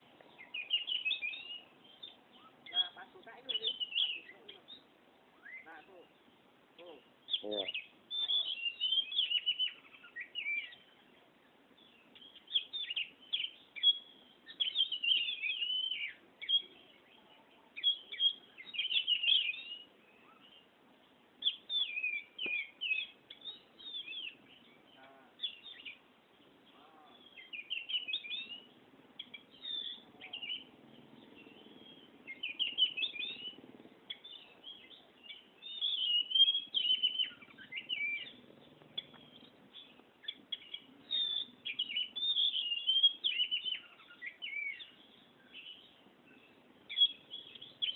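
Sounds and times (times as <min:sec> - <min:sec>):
bird singing whistled phrases: 0:00.4 - 0:04.8, 0:05.4 - 0:05.8, 0:07.3 - 0:11.0, 0:12.2 - 0:20.6, 0:21.4 - 0:26.0, 0:26.7 - 0:38.4, 0:39.0 - 0:47.9.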